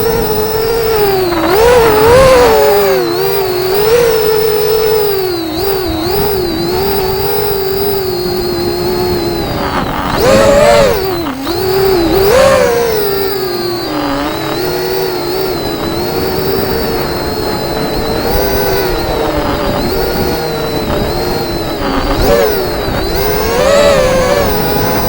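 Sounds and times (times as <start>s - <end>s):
drone motors whining: 0.0s - 25.0s
low wind rumble: 0.0s - 25.0s.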